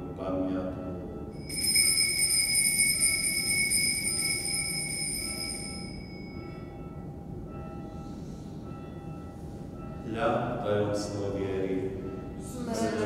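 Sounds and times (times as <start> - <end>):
altar bell ringing: 0.0 - 13.0.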